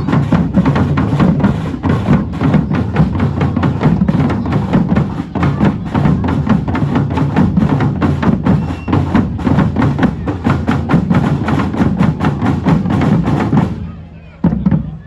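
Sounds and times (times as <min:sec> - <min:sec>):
drum band playing: 0:00.0 - 0:15.0.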